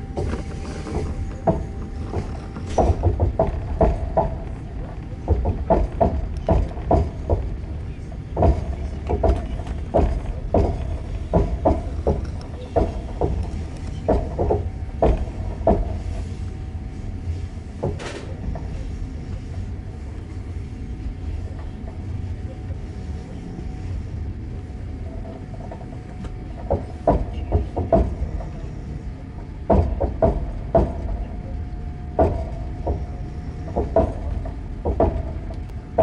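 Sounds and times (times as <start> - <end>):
train rumble inside carriage: 0.0 - 36.0
wheel clacks over rail joints: 0.0 - 36.0.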